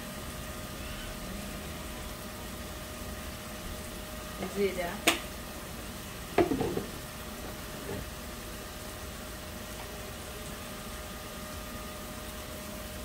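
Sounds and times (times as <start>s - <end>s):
onions frying in oil: 0.0s - 13.0s.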